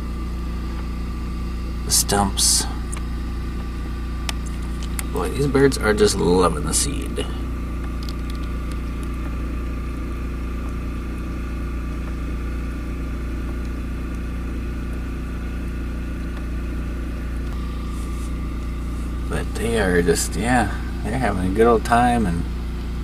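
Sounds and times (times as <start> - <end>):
motor hum: 0.0 - 23.0.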